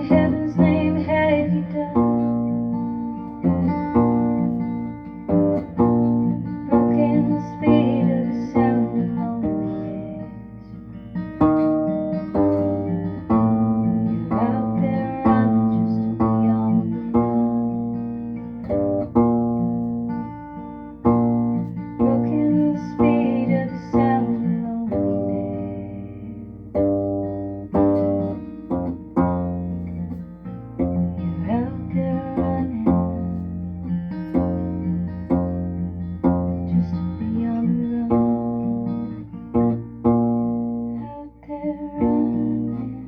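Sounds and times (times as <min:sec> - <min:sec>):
guitar: 0:00.0 - 0:43.0
ukulele picking: 0:00.0 - 0:43.0.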